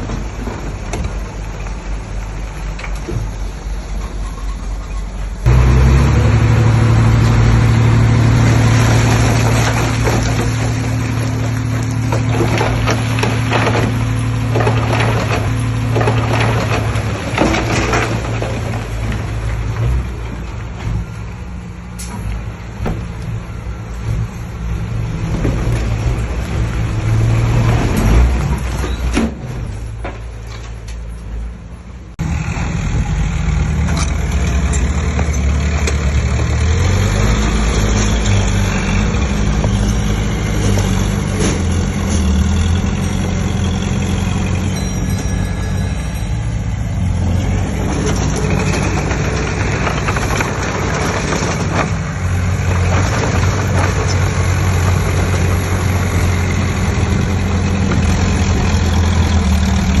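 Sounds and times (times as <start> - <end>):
heavy diesel machinery engine: 0.0 - 60.0.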